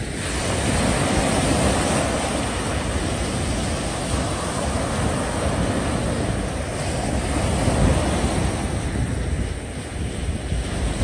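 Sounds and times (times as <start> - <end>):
sea waves washing: 0.0 - 11.0
wind buffeting microphone: 0.0 - 11.0.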